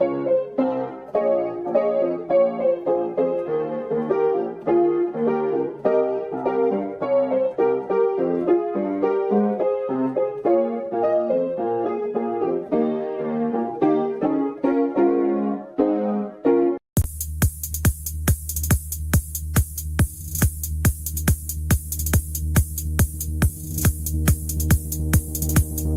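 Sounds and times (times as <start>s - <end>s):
piano music: 0.0s - 16.8s, 21.3s - 25.9s.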